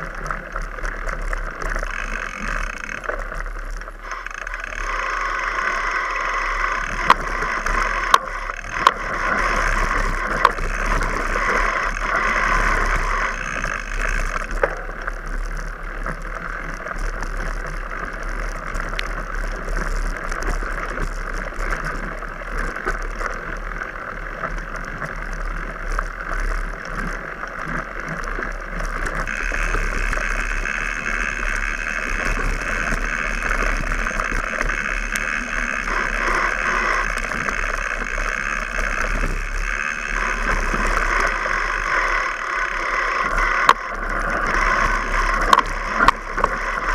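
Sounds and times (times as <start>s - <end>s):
bike tyres on dirt track: 0.0s - 46.9s.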